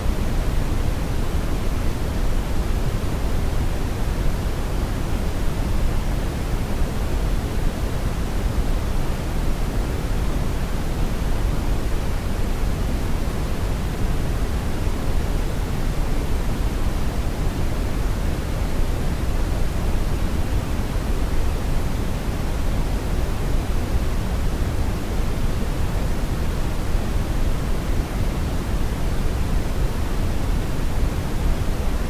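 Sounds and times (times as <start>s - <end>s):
brown noise rumbling hiss: 0.0s - 32.0s.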